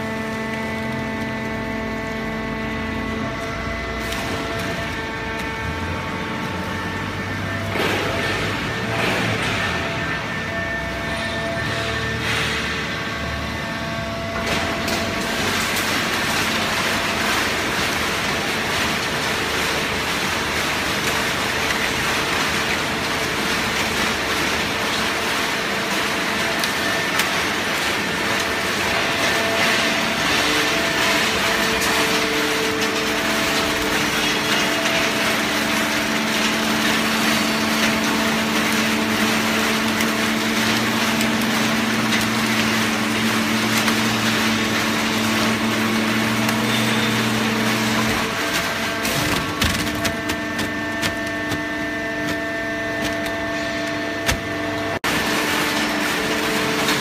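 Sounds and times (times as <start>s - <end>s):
hydraulic baling press running: 0.0s - 57.0s.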